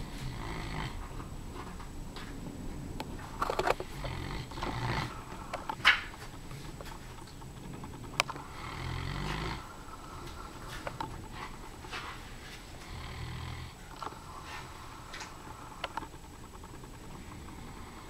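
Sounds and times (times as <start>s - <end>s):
dog snoring: 0.0s - 1.2s, 3.2s - 18.0s.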